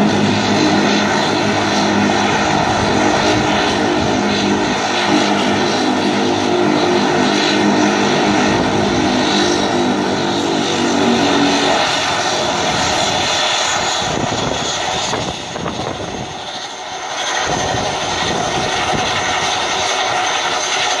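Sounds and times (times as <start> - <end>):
turboprop engine high whine: 0.0 - 21.0
turboprop engine low drone: 0.0 - 21.0.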